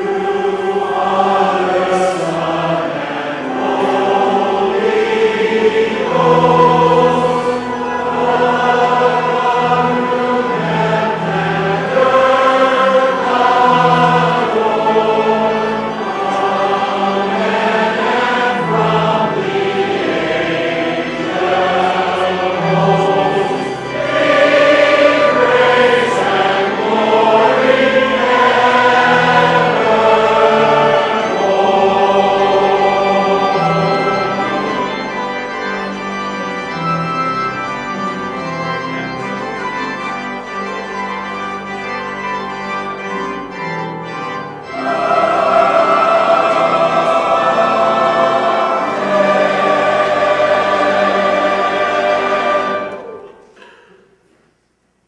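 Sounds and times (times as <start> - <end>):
choir singing held chords: 0.0 - 54.2.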